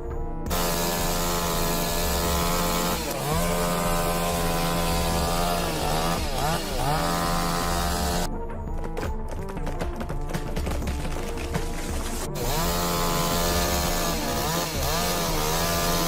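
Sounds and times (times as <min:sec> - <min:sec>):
chainsaw cutting wood: 0:00.3 - 0:08.3, 0:10.2 - 0:16.0.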